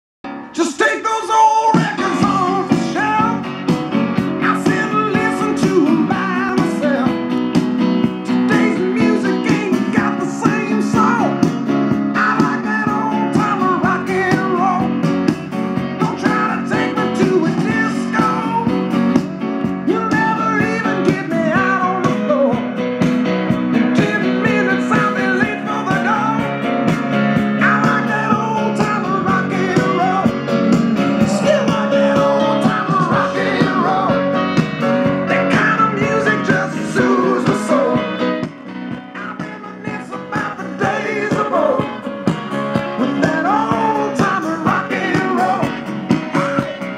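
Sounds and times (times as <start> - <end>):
song with guitar and singing: 0.3 - 46.9.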